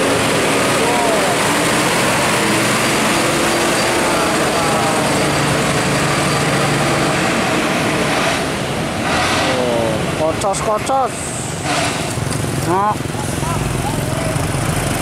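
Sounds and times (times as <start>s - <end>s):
diesel truck engine: 0.0s - 15.0s.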